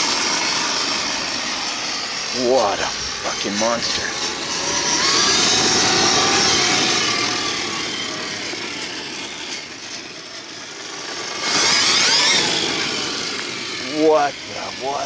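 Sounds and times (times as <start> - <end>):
electric motor and gear whine: 0.0 - 15.0.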